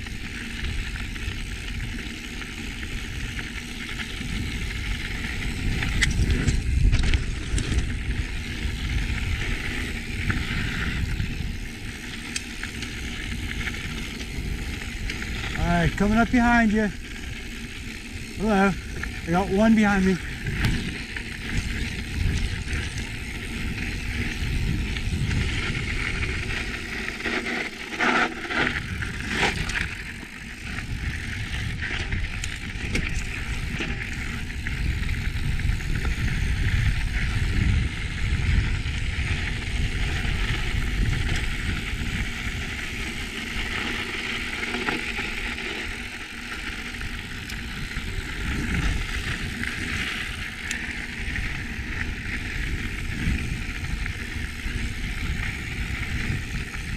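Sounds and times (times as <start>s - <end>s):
tyre and wind noise: 0.0s - 56.9s
bike rattles and knocks: 0.8s - 56.9s.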